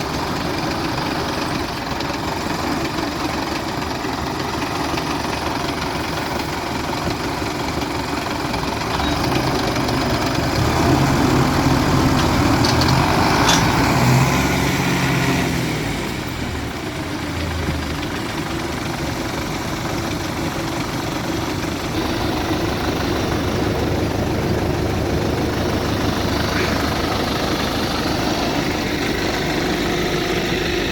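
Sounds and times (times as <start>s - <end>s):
tractor diesel engines running: 0.0s - 30.9s.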